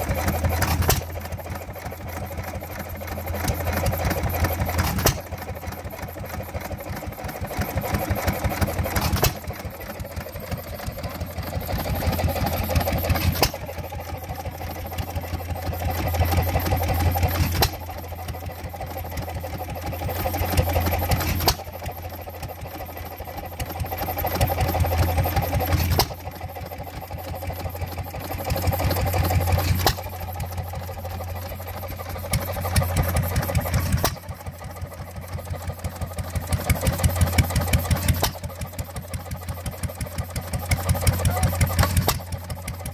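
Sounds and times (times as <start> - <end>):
stationary engines chuffing: 0.0 - 42.9.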